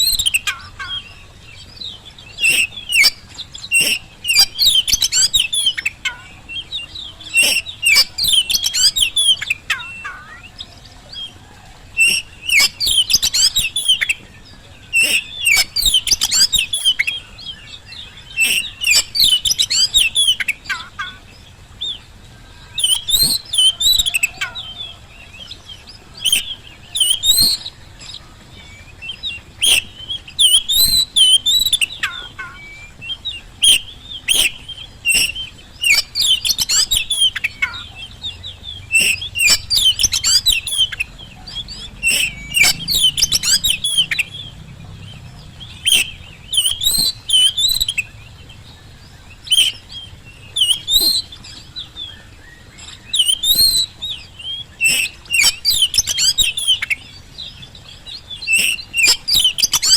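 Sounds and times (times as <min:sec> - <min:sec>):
bird singing whistled phrases: 0:00.0 - 0:01.2, 0:01.8 - 0:14.2, 0:14.9 - 0:21.2, 0:21.8 - 0:48.2, 0:49.4 - 0:59.9.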